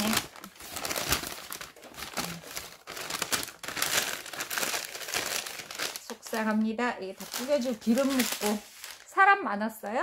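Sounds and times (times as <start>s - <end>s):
paper bag crinkling: 0.0s - 9.2s.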